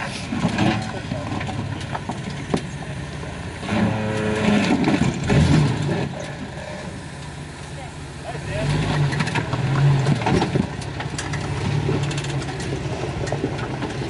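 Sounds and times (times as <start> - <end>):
car engine running at low speed: 0.0 - 14.0.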